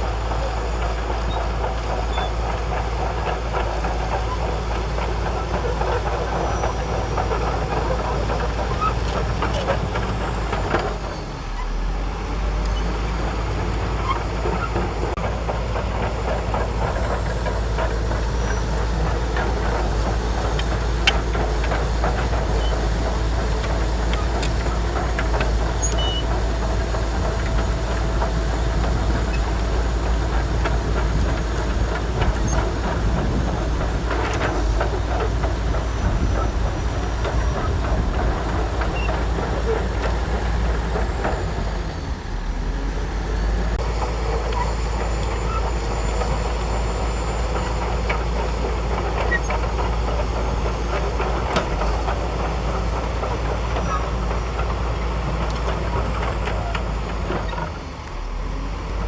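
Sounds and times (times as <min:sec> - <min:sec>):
diesel engine running: 0:00.0 - 0:59.0
steel tracks clanking: 0:00.0 - 0:59.0.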